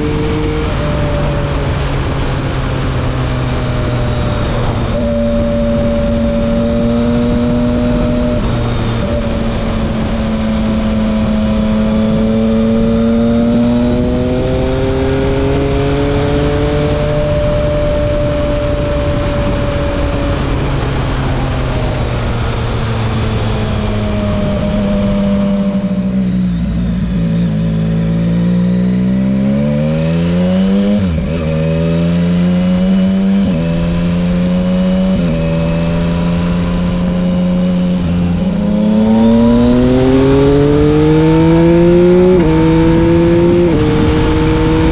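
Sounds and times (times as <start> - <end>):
motorcycle engine through loud exhaust: 0.0 - 44.9
wind rush: 0.0 - 44.9.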